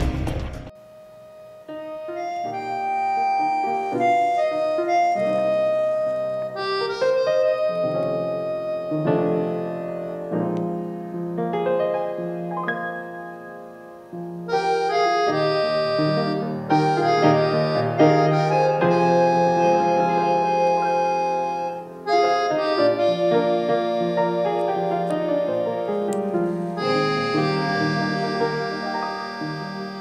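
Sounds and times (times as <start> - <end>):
piano background music: 0.0 - 30.0.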